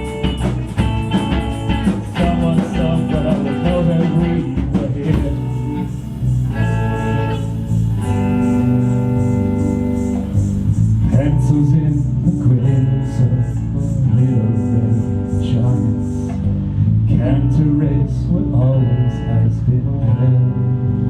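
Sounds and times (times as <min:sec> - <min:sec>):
lead guitar line: 0:00.0 - 0:21.0
live rock band playing: 0:00.0 - 0:21.0.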